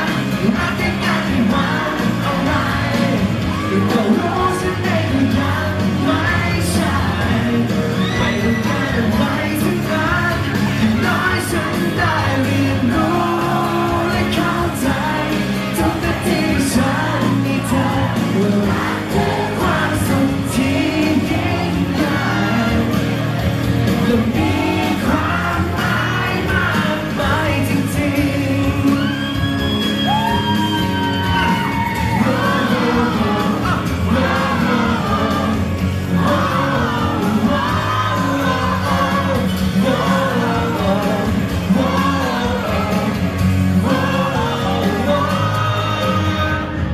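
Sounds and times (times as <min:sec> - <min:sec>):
man singing into microphone: 0:00.0 - 0:23.3, 0:23.9 - 0:46.9
loud backing music with drums: 0:00.0 - 0:46.9.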